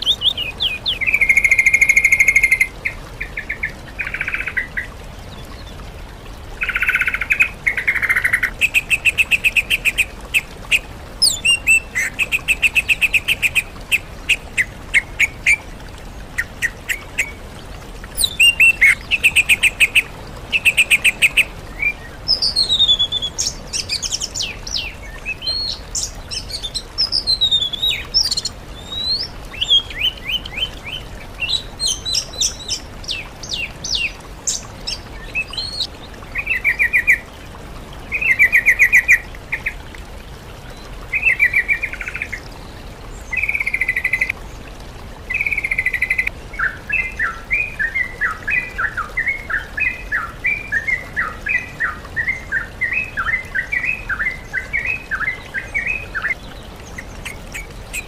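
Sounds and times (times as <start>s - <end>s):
songbirds singing: 0.0s - 37.4s, 40.7s - 44.7s, 45.3s - 58.0s.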